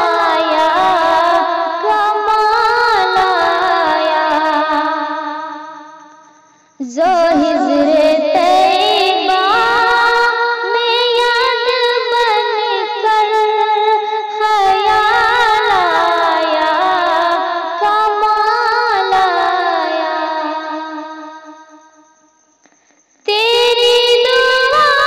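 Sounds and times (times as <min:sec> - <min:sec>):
woman singing with vibrato: 0:00.0 - 0:05.8, 0:06.8 - 0:21.6, 0:23.3 - 0:25.0.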